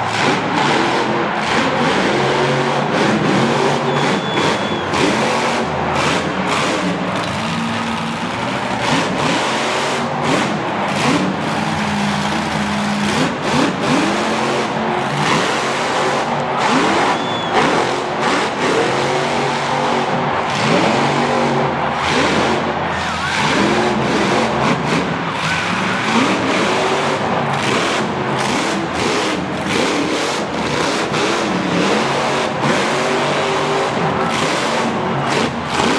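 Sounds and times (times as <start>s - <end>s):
loud rushing noise: 0.0s - 35.9s
monster truck engine revving: 0.0s - 35.9s.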